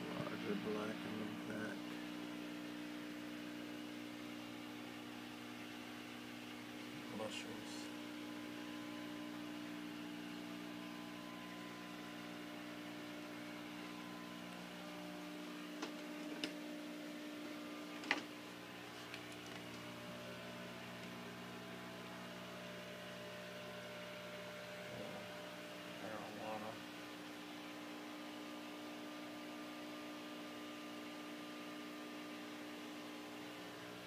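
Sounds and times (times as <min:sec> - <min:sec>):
aquarium equipment humming: 0:00.0 - 0:34.0.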